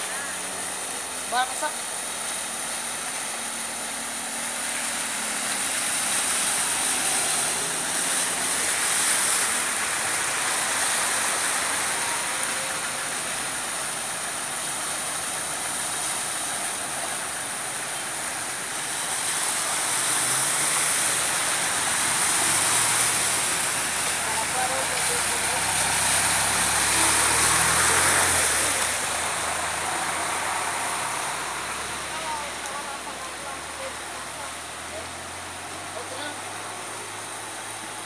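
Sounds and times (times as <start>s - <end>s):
car engine hum: 0.0s - 38.0s
water swishing under tyres: 0.0s - 38.0s.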